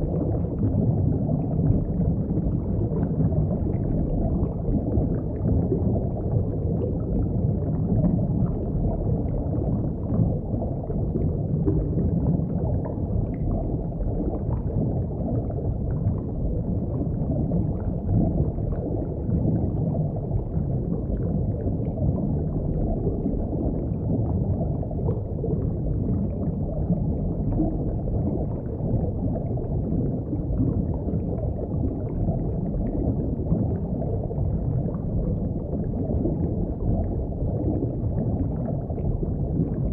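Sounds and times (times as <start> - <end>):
underwater rumble of moving water: 0.0 - 39.9.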